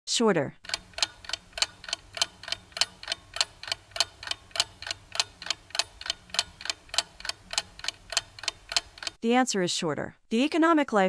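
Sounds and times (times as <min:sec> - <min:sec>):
clock ticking: 0:00.6 - 0:09.2, 0:10.4 - 0:10.9.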